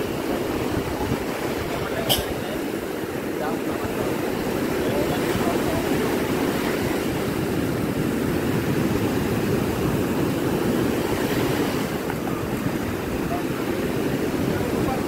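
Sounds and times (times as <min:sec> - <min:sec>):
heavy surf breaking: 0:00.0 - 0:15.0.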